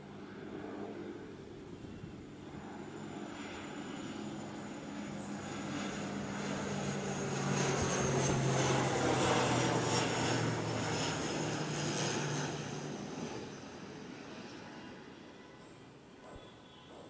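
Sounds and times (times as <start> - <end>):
propeller plane flying overhead: 0.0 - 17.0.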